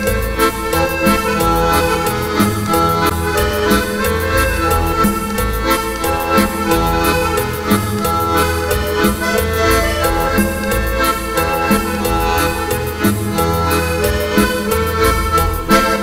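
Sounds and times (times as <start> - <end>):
accordion instrumental music: 0.0 - 16.0.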